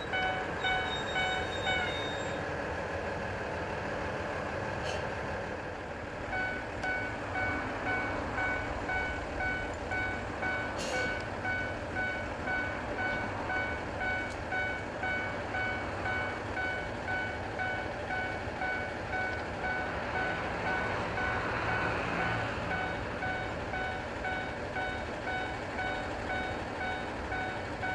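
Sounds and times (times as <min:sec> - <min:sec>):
diesel railcar engine running: 0:00.0 - 0:27.9.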